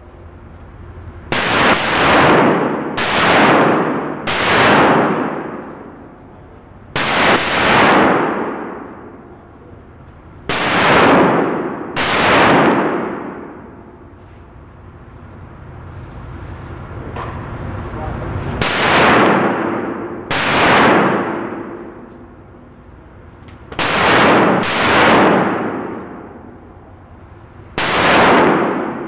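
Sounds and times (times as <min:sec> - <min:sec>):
gunshots echoing indoors: 0:01.2 - 0:14.1, 0:18.6 - 0:29.0.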